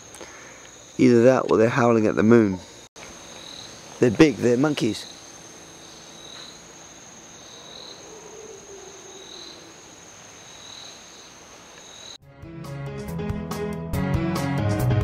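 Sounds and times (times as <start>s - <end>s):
insect chirp: 0.0s - 12.2s
insects high whine: 0.0s - 12.2s.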